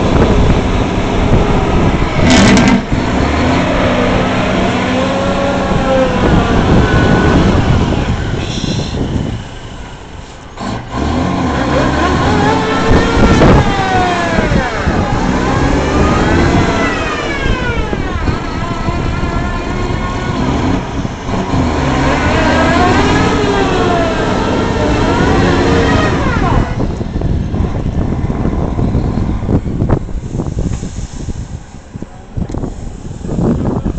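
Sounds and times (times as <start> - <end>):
truck engine revving: 0.0 - 33.9.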